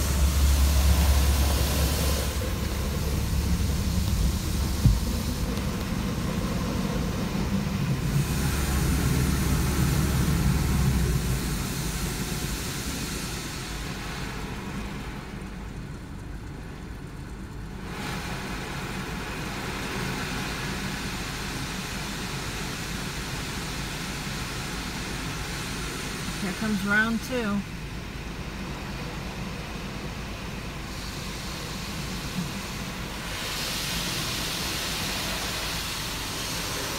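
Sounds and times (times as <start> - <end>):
car idling hum: 0.0 - 36.9
muffled car wash machinery: 0.0 - 36.9.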